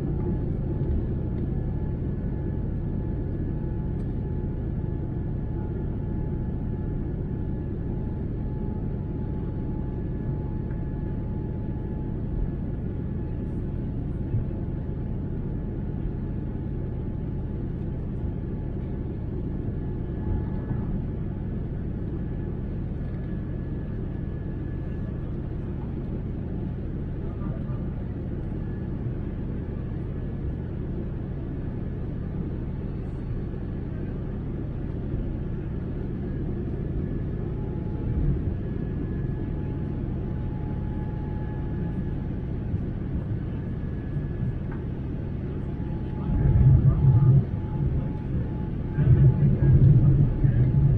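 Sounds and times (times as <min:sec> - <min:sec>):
faint steady whine: 0:00.0 - 0:50.9
jet engines low rumble: 0:00.0 - 0:50.9.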